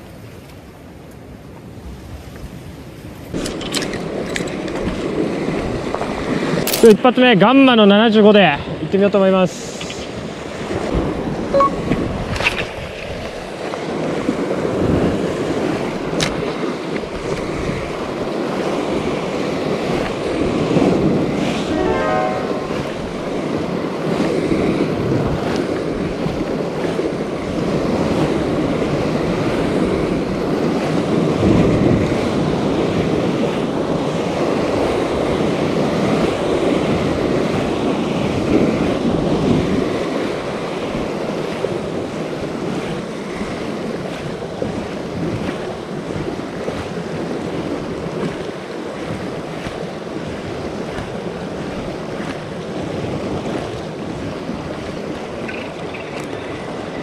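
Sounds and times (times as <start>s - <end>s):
wind buffeting microphone: 0.0s - 21.7s, 22.7s - 57.0s
waves washing over rocks: 1.6s - 57.0s.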